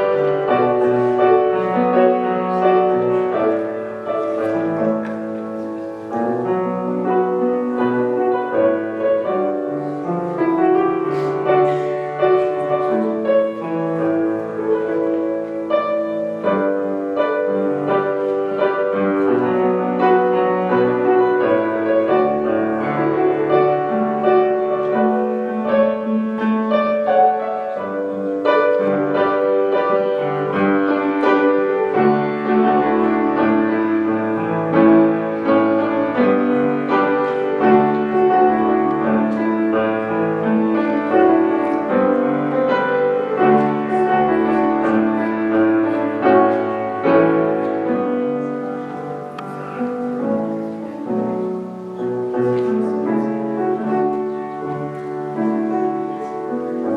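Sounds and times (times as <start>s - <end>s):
solo piano hymn: 0.0s - 56.9s.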